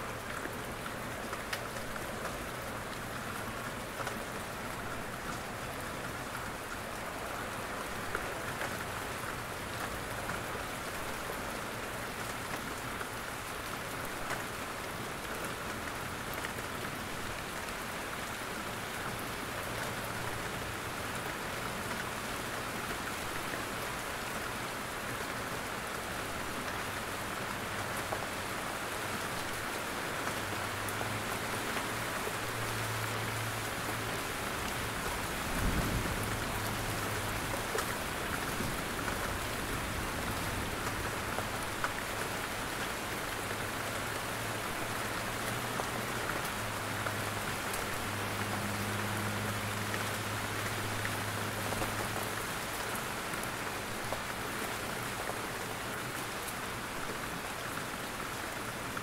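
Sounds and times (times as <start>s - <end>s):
steady rain in a forest: 0.0s - 59.0s.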